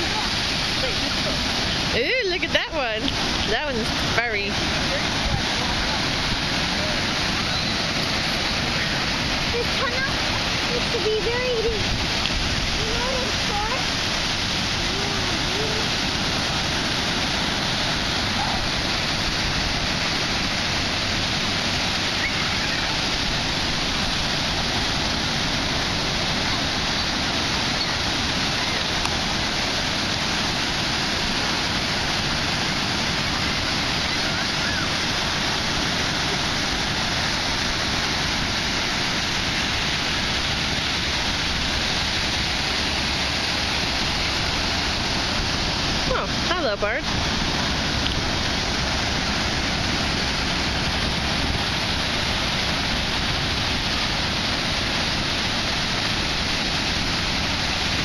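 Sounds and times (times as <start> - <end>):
ocean surf washing up beach: 0.0 - 58.0.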